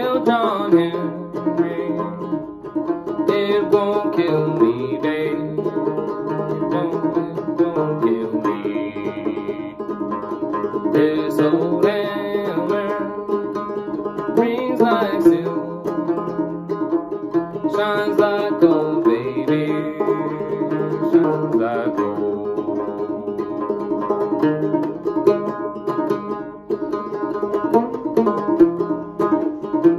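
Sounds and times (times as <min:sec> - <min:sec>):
banjo plucked: 0:00.0 - 0:29.9.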